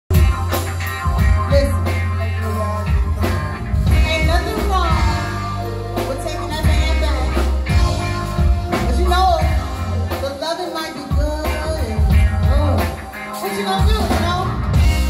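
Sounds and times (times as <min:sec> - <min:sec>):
live soul band playing: 0:00.1 - 0:15.0
person singing: 0:01.1 - 0:14.7.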